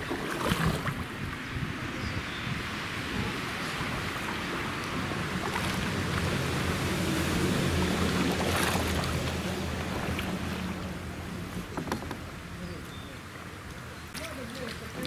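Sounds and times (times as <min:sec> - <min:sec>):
paddle splashing and dripping: 0:00.0 - 0:01.4, 0:03.3 - 0:15.0
wind and moving water: 0:00.0 - 0:15.0.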